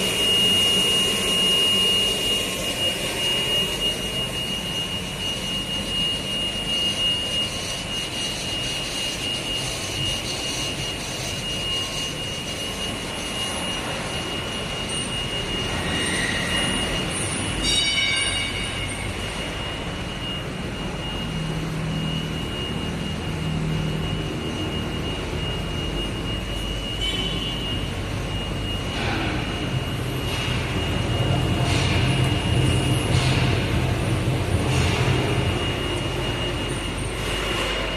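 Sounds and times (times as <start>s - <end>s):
production line machinery running: 0.0s - 37.9s.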